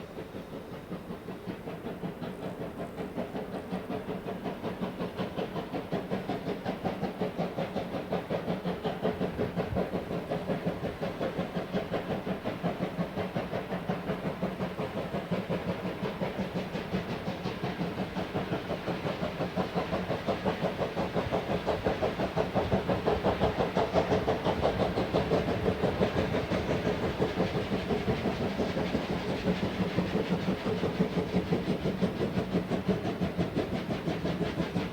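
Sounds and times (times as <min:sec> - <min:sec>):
steam hiss: 0:00.0 - 0:34.9
steam locomotive exhaust beating: 0:00.0 - 0:34.9.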